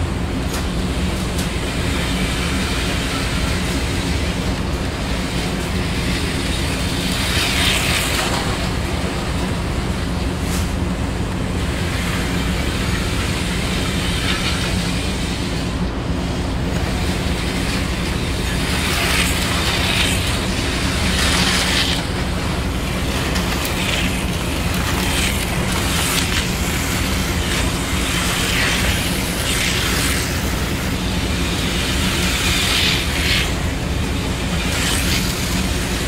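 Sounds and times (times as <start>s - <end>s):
electric hum: 0.0s - 36.0s
model train rumbling on track: 0.0s - 36.0s.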